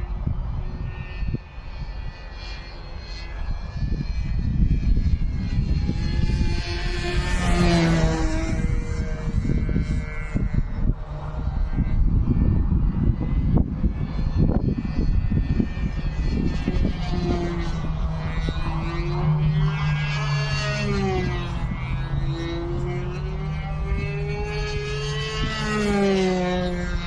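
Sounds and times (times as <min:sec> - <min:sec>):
model airplane engine buzzing: 0:00.0 - 0:27.0
wind buffeting microphone: 0:00.0 - 0:27.0.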